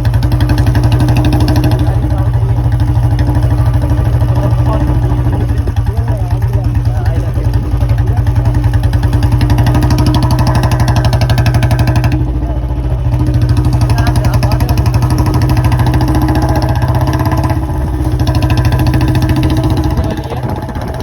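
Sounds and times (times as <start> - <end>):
motorcycle exhaust thumping: 0.0 - 21.0.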